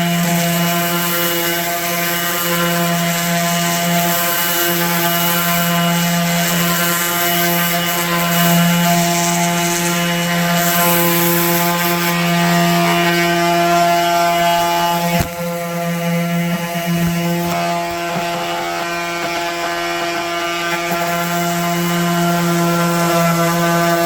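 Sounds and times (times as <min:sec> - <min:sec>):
electric sander sanding wood: 0:00.0 - 0:24.0.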